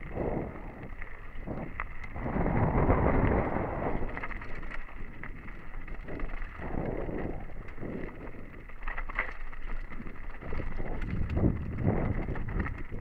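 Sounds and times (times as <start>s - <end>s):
wind rushing over microphone: 0.0s - 8.8s, 10.3s - 13.0s
bike clicks and rattles: 0.0s - 13.0s
bike tyres rolling on trail: 0.0s - 13.0s.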